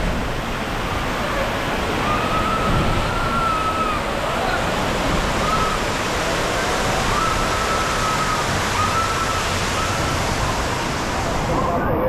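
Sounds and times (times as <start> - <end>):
rushing splashing water: 0.0 - 12.0
distant voices calling: 1.4 - 12.0.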